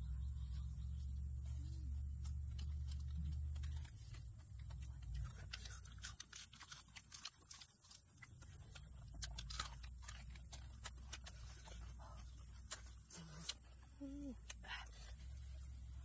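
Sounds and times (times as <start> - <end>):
person chewing and crunching: 1.6 - 15.6.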